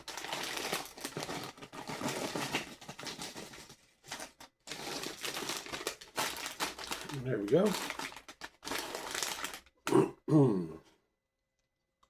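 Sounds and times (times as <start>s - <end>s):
plastic chip bag crinkling: 0.0s - 9.8s.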